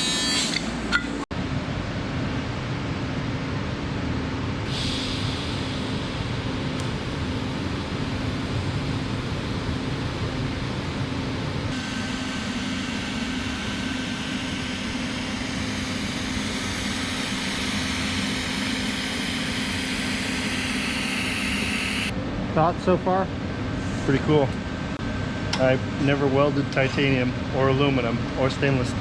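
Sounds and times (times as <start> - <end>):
welding machines hum and hiss: 0.0 - 29.0.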